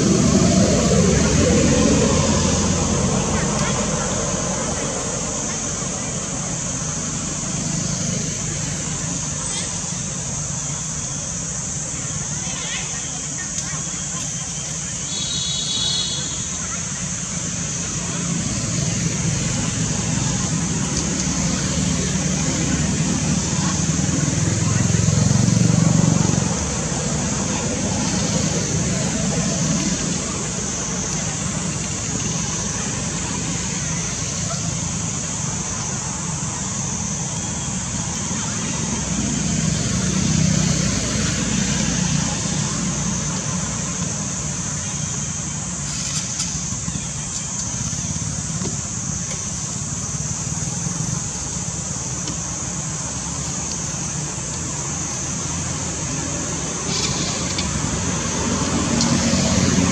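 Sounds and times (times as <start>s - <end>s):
constant high hiss: 0.0s - 59.9s
low rumble of distant traffic: 0.0s - 59.9s.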